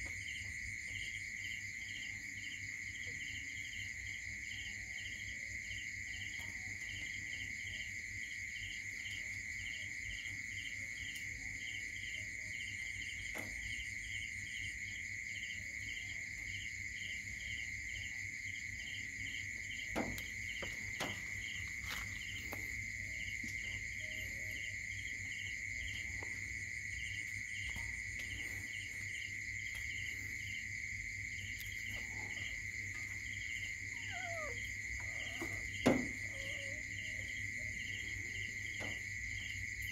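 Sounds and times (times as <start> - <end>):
crickets trilling: 0.0 - 39.9
pulsed insect chirp: 0.0 - 39.9.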